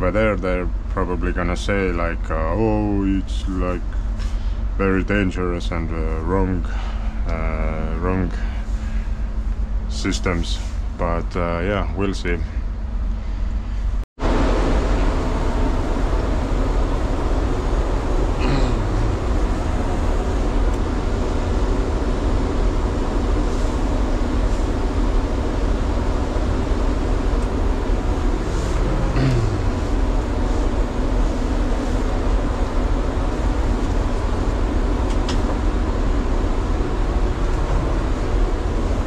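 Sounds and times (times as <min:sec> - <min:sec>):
trolleybus running rumble: 0:00.0 - 0:39.0.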